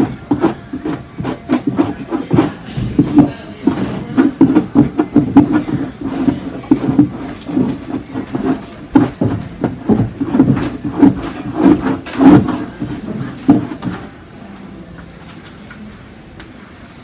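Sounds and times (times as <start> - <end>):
painting tool scraping on wood panel: 0.0 - 14.1.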